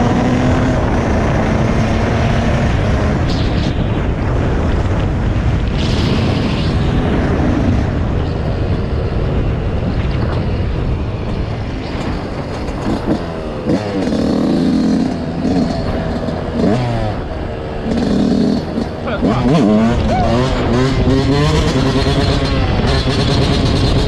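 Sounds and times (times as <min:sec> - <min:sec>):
dirt bike engine revving: 0:00.0 - 0:04.8, 0:09.2 - 0:24.0.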